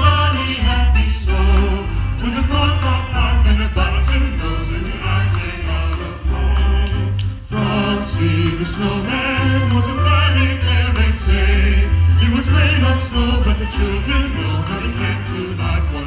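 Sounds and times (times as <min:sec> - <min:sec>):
choir singing: 0:00.0 - 0:16.0
low bass notes: 0:00.0 - 0:16.0.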